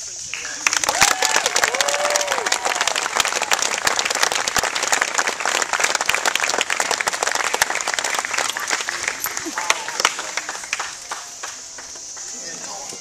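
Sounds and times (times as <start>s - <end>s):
crowd applauding: 0.2s - 12.9s.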